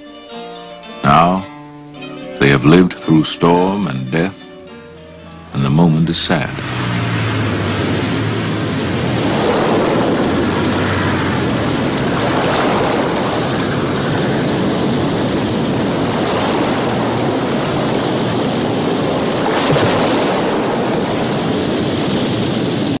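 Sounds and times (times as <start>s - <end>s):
sea waves: 0.0s - 23.0s
wind: 3.7s - 23.0s.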